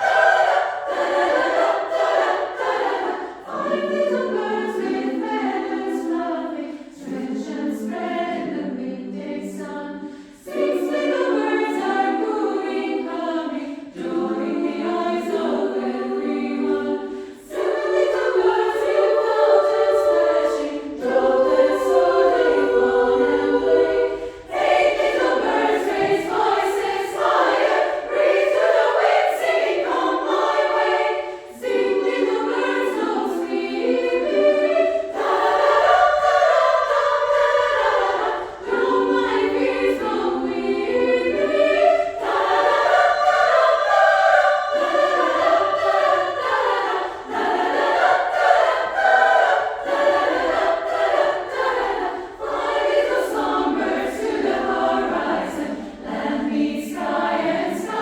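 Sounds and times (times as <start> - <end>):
female choir singing: 0.0 - 58.0.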